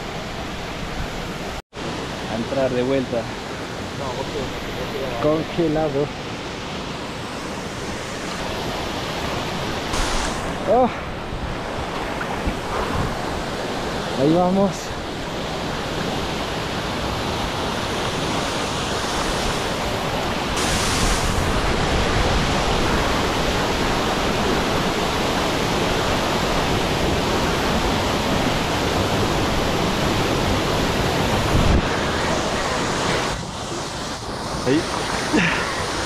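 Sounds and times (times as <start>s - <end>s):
waterfall rushing: 0.0s - 36.0s
water lapping and splashing: 6.2s - 14.2s, 15.0s - 36.0s.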